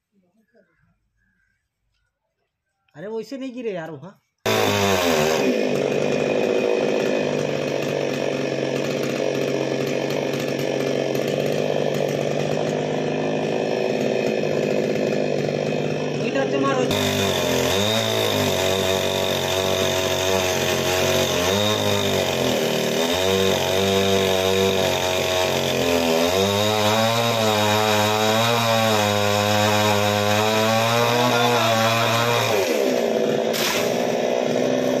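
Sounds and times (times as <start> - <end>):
chainsaw cutting tree trunk: 4.4 - 35.0.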